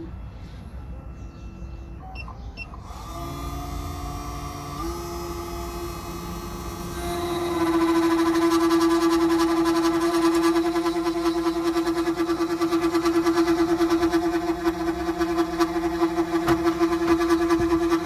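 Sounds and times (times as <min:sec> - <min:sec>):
key-cutting machine motor: 0:02.8 - 0:18.0.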